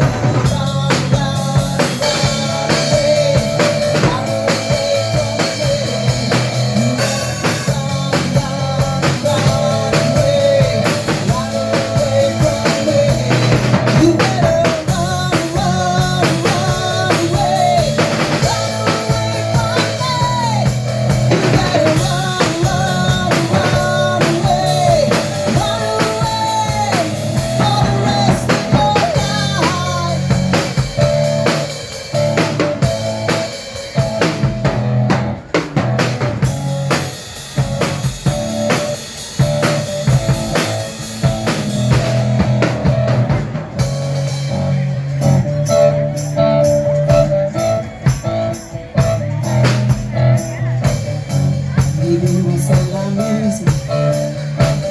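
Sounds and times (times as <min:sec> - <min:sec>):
person singing: 0:00.0 - 0:35.1, 0:44.2 - 0:54.9
drum kit beat: 0:00.0 - 0:54.9
rock band playing: 0:00.0 - 0:54.9.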